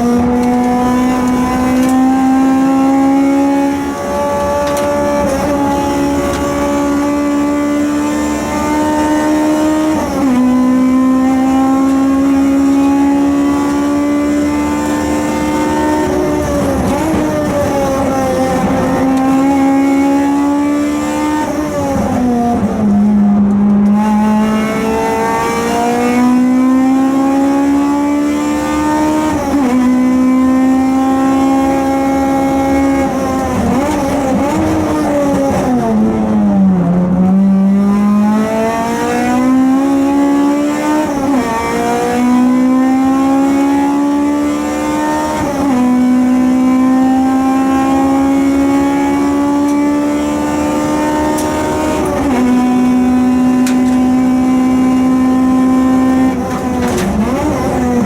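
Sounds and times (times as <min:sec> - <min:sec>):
car engine revving through gears: 0:00.0 - 0:58.0.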